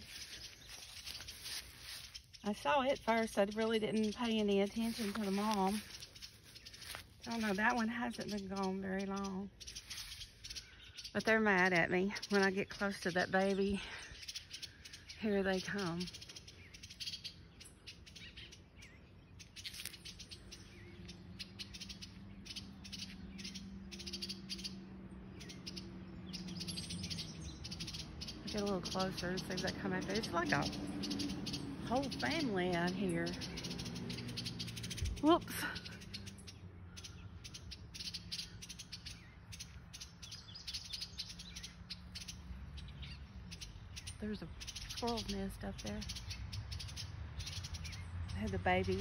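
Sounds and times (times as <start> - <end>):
birds rattling alarm calls: 0.0 - 49.0.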